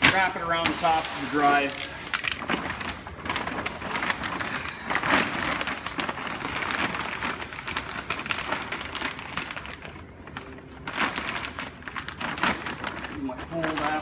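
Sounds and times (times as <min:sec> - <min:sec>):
plastic film crinkling: 0:00.0 - 0:14.0.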